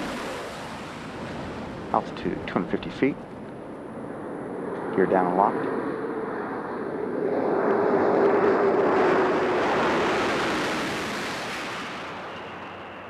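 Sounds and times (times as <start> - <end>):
rushing air noise: 0.0 - 13.0.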